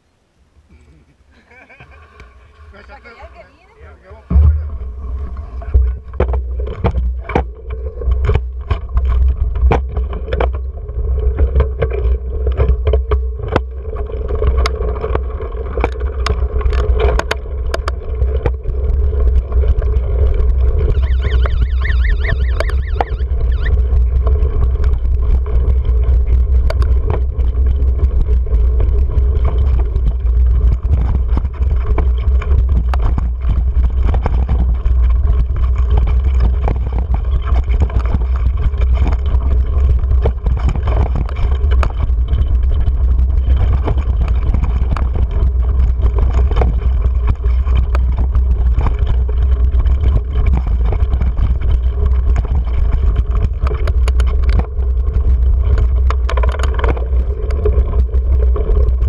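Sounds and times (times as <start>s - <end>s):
wind rumble on microphone: 1.6s - 59.0s
bike rattles and knocks: 4.2s - 59.0s.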